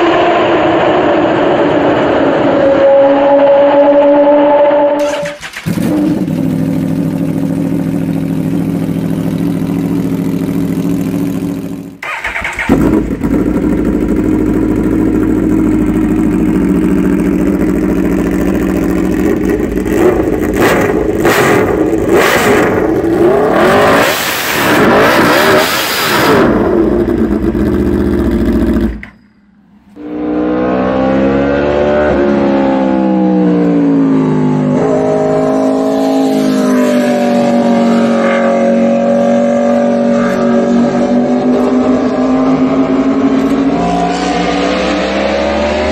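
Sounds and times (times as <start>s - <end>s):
superbike engine revving: 0.0s - 29.1s, 30.0s - 45.9s.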